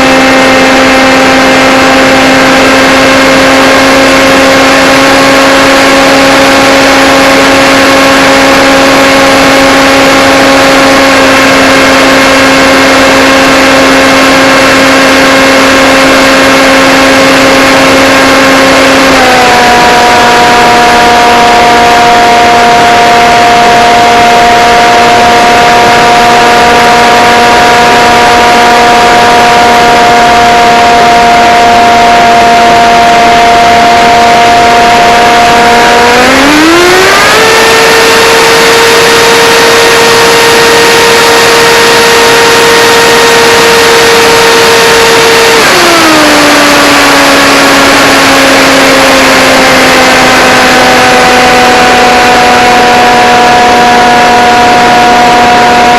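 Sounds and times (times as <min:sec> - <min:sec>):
drone motors whining: 0:00.0 - 0:55.9.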